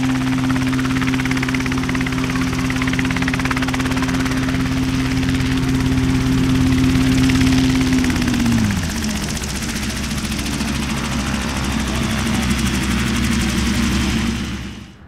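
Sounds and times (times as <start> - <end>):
helicopter engine hum: 0.0 - 15.0
helicopter rotor chop: 0.0 - 15.0.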